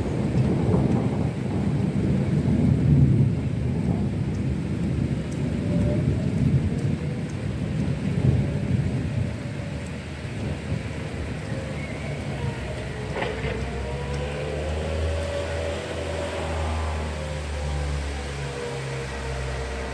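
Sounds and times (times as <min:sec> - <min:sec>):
steady rain: 0:00.0 - 0:19.9
thunder rumbling: 0:00.0 - 0:19.9.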